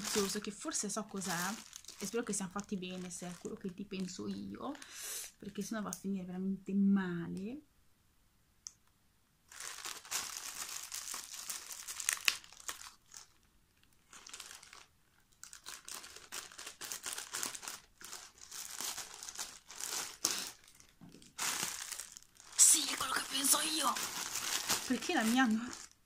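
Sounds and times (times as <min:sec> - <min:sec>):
packaging crinkling and tearing: 0:00.0 - 0:05.0, 0:09.5 - 0:26.0.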